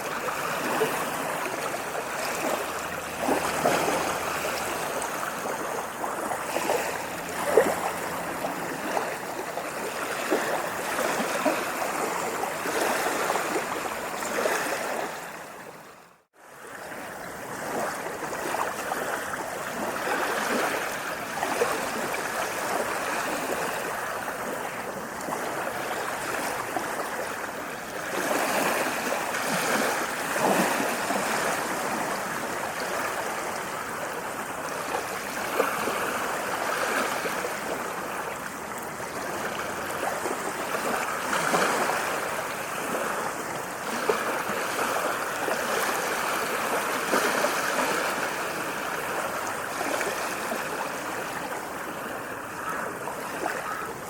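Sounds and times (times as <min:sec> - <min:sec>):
small waves lapping: 0:00.0 - 0:54.0.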